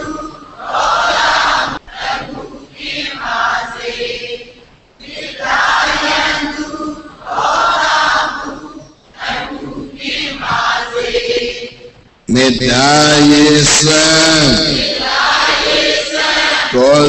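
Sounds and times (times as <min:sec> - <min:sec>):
group chanting: 0:00.0 - 0:12.0, 0:12.9 - 0:17.0.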